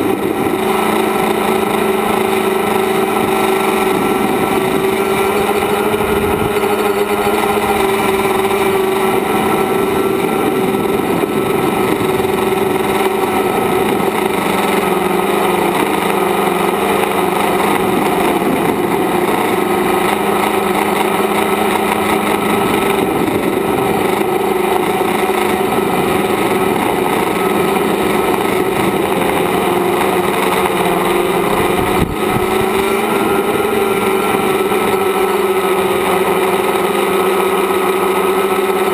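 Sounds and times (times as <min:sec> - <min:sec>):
drone motors and propellers: 0:00.0 - 0:38.9.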